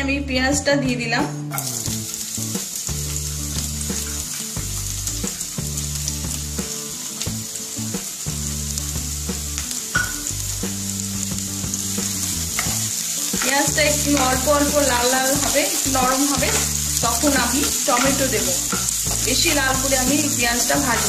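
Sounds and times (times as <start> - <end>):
onions sizzling in oil: 1.6 - 21.0.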